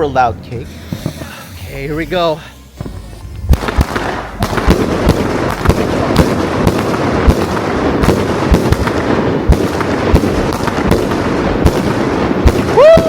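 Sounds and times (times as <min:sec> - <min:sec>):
fireworks booming rapidly: 0:00.0 - 0:13.0.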